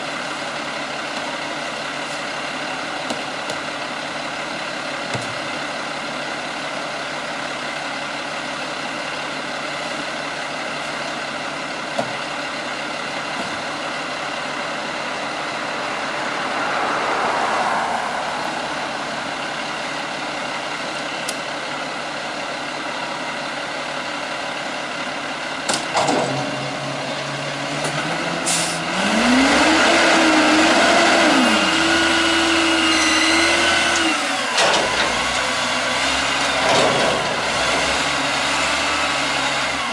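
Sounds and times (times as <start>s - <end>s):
diesel engine idling and revving: 0.0s - 39.9s.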